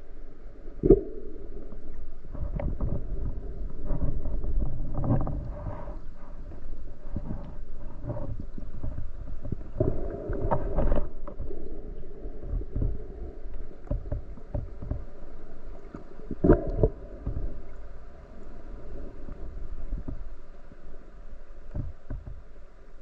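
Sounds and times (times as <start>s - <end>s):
low rumble: 0.0s - 22.7s
water movement: 0.0s - 23.0s.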